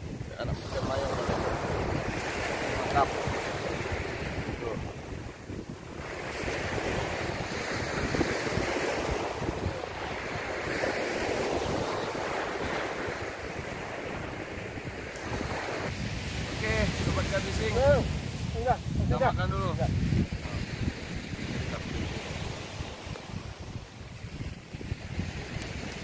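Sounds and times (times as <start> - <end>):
surf washing up a beach: 0.0 - 26.0
wind on microphone: 0.0 - 26.0.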